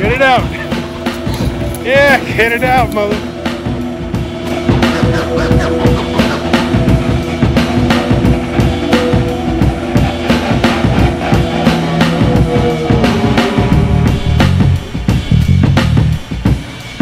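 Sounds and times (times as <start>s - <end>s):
bass line: 0.0s - 16.8s
drum kit beat: 0.0s - 17.0s
held synth notes: 0.0s - 17.0s.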